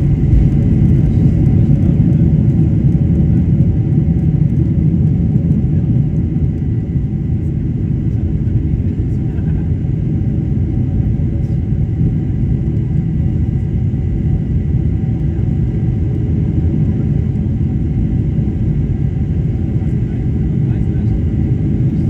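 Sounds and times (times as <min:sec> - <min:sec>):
faint high engine whine: 0:00.0 - 0:22.0
jet engines rumbling in cabin: 0:00.0 - 0:22.0.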